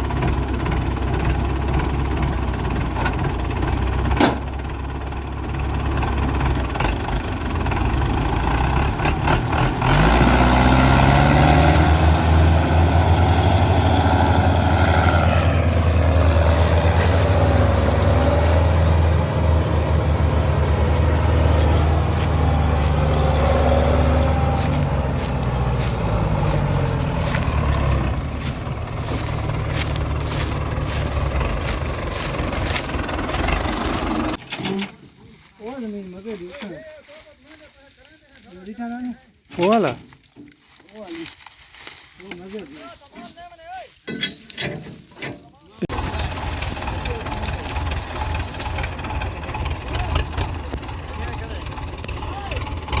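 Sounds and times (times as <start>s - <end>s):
tractor diesel engine revving: 0.0s - 36.3s, 44.2s - 53.0s.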